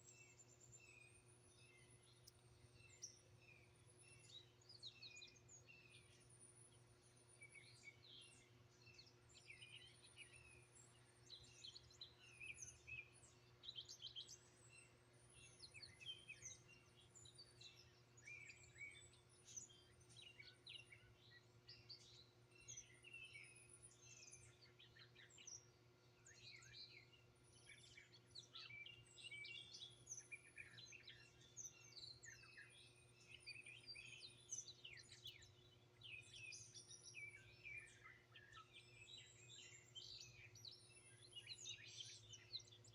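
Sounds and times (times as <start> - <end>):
songbirds chirping and singing: 0.0 - 42.9.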